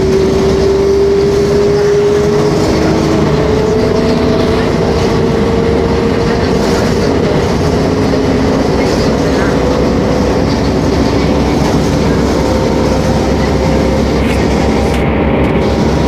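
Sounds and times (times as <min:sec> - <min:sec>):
bus engine whining under way: 0:00.0 - 0:16.0.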